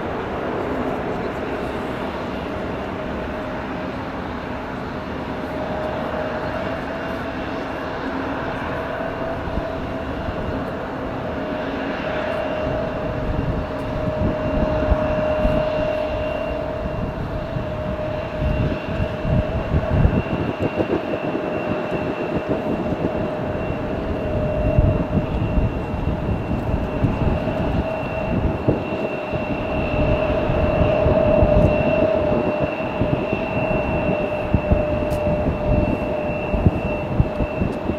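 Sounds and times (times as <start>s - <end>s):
jet engines whining and rumbling: 0.0s - 37.9s.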